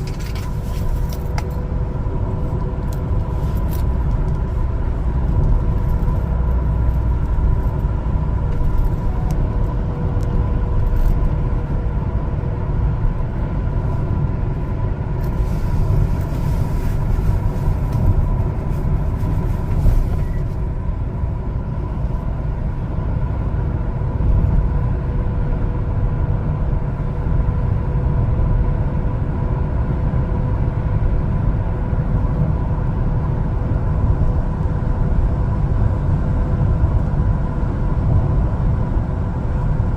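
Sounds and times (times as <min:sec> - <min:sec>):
faint constant whine: 0:00.0 - 0:39.9
truck engine rumble: 0:00.0 - 0:39.9.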